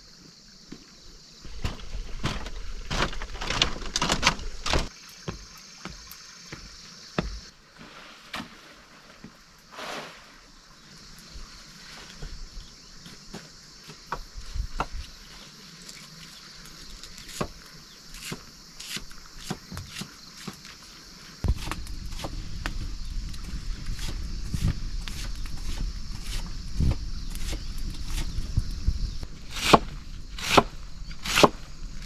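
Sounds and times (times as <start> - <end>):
high insect hum: 0.0 - 32.0.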